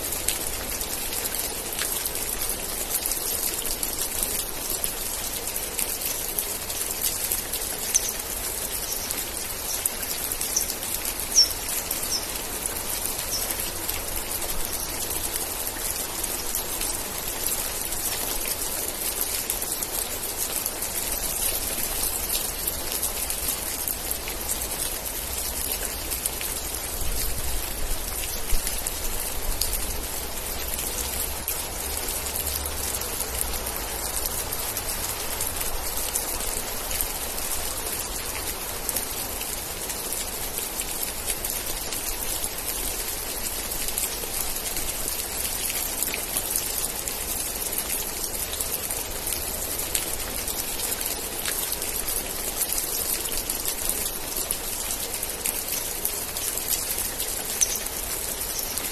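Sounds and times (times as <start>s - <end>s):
steady rain pattering: 0.0s - 58.9s.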